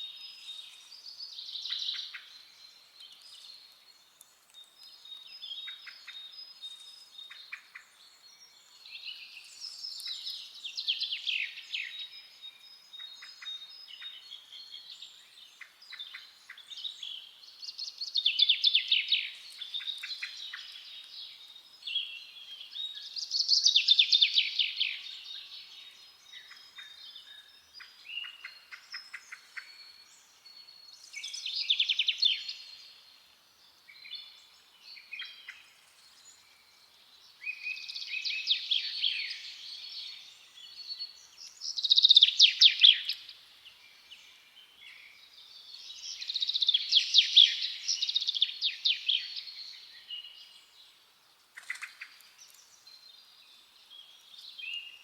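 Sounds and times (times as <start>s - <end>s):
birds singing trilled song: 0.0s - 55.0s
soft bird chirps: 0.0s - 55.0s.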